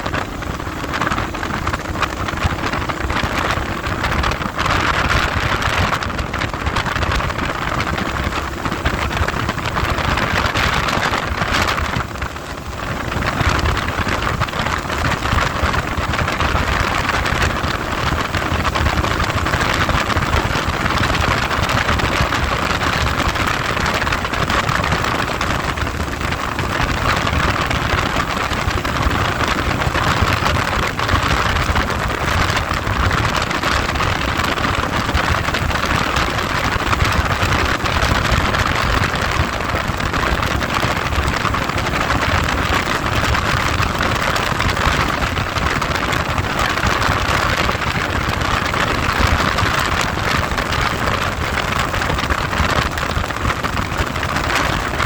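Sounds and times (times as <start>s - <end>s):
vehicle running: 0.0s - 55.0s
wind buffeting microphone: 0.0s - 55.0s.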